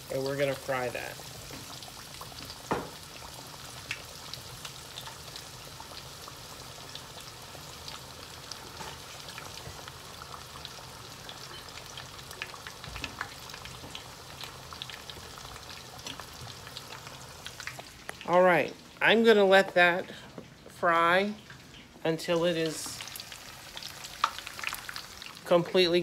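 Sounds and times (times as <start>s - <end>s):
chicken frying in oil sizzling: 0.0s - 26.0s.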